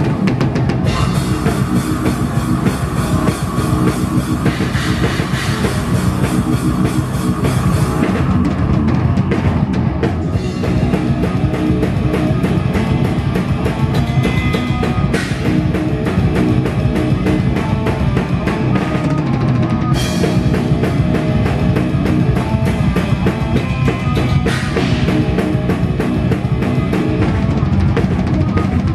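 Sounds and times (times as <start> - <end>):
heavy metal band playing live: 0.0 - 28.9.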